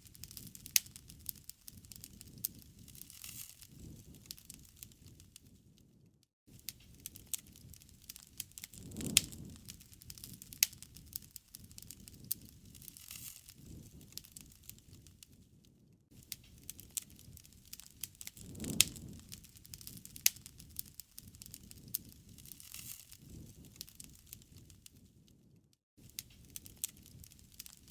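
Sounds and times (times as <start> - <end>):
low rustle of flame: 0.0 - 27.9
wood fire crackling and popping: 0.0 - 27.9.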